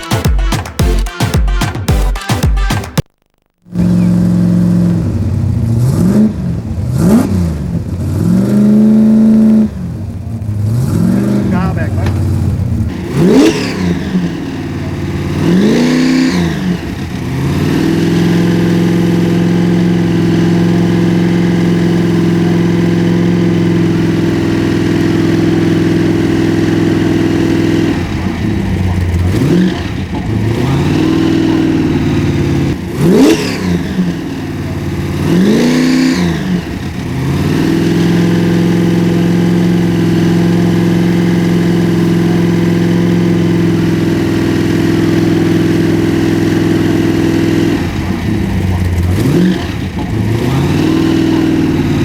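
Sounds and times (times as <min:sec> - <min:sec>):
car engine revving: 0:03.7 - 0:52.0.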